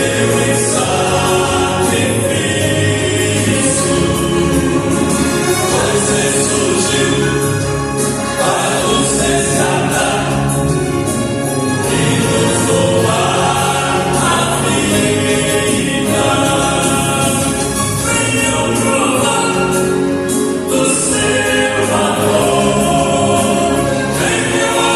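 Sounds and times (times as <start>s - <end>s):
vocal quartet singing a hymn: 0.0s - 24.9s.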